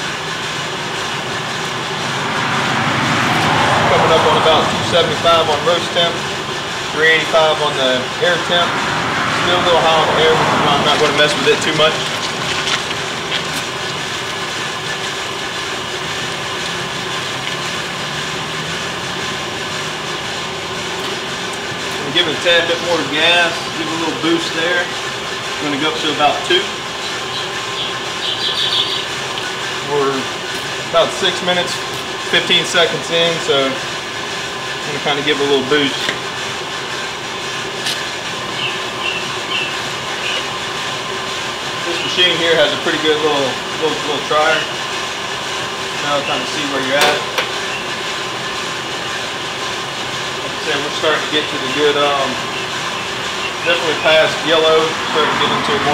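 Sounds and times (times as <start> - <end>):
coffee roaster fan and burner rushing: 0.0 - 55.9.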